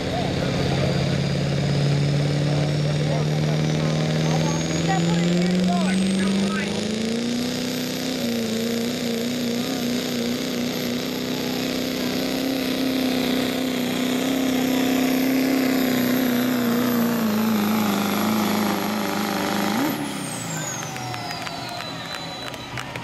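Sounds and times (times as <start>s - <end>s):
diesel engine at high revs: 0.0s - 23.0s.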